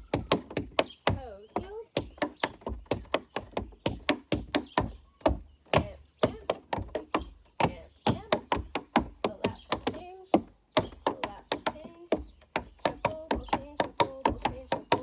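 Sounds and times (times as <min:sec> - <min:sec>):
tap shoes on wooden boards: 0:00.0 - 0:15.0.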